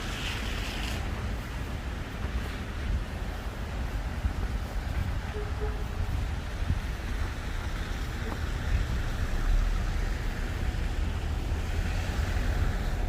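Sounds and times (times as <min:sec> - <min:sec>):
city street traffic: 0:00.0 - 0:13.0
wind rumble on microphone: 0:00.0 - 0:13.0.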